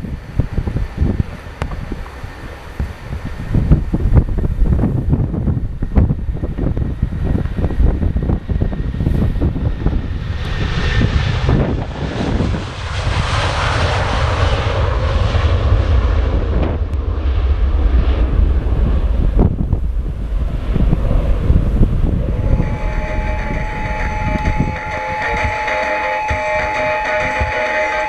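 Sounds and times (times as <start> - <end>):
jet engines passing by: 0.0 - 28.0
wind buffeting microphone: 0.0 - 28.0.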